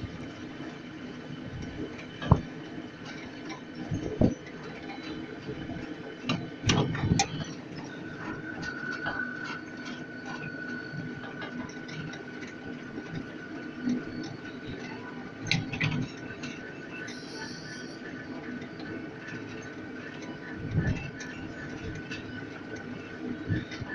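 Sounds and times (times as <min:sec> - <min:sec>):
thin steady whine: 0:00.0 - 0:23.9
train running rumble: 0:00.0 - 0:23.9.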